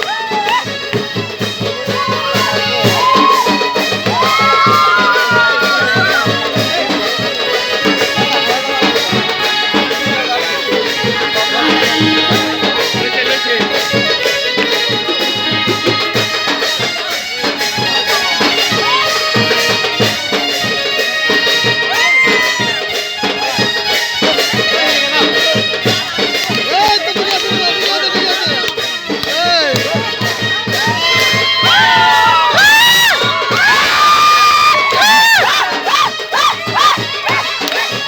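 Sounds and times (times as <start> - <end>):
traditional instrumental music: 0.0 - 38.0.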